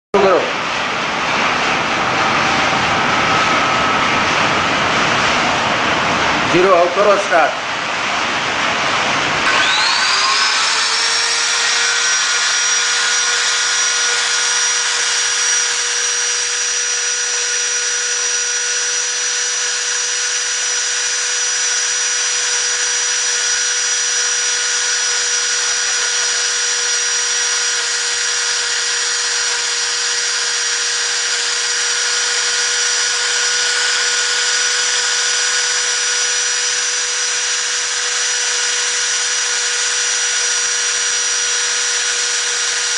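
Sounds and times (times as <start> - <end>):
spindle motor whine: 0.2 - 42.9.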